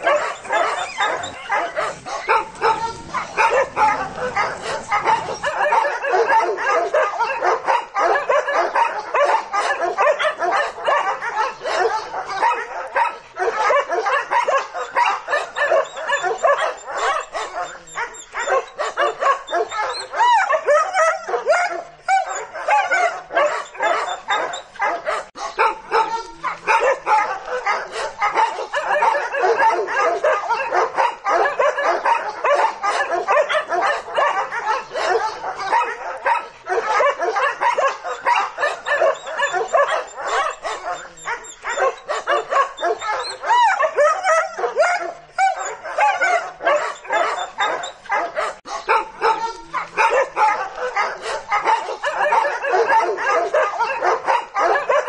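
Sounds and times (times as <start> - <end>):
dogs barking and yelping: 0.0 - 55.0.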